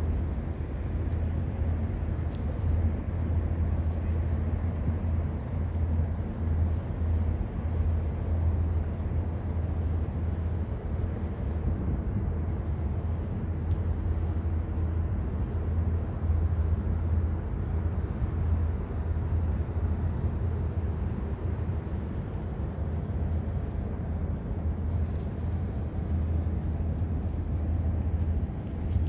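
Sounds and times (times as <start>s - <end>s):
low fluctuating outdoor rumble: 0.0s - 29.0s.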